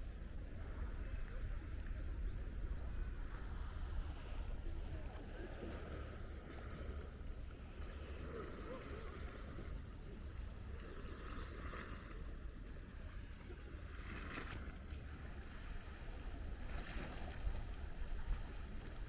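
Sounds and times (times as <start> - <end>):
lake waves lapping: 2.8 - 19.0.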